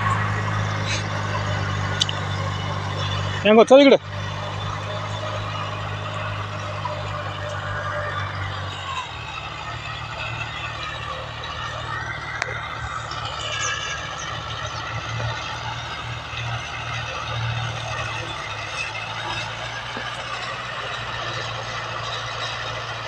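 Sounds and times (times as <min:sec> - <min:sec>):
tractor diesel engine droning: 0:00.0 - 0:23.0
wavering high whine: 0:00.0 - 0:23.0.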